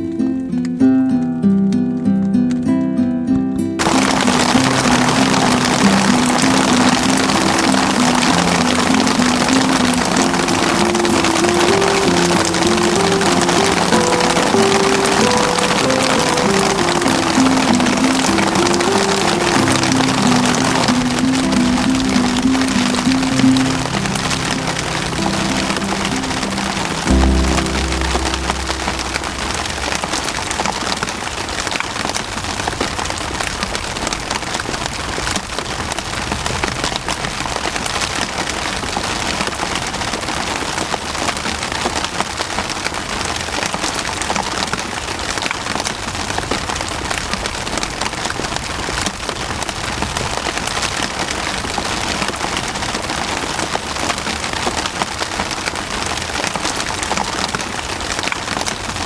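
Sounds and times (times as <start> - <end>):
rain falling: 3.8 - 59.0.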